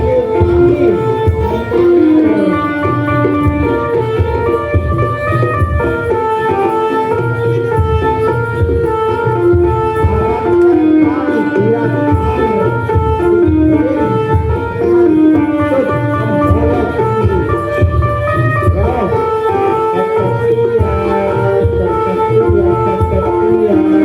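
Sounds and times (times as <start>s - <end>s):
hand drums playing: 0.0s - 24.0s
wind instrument melody: 0.0s - 24.0s.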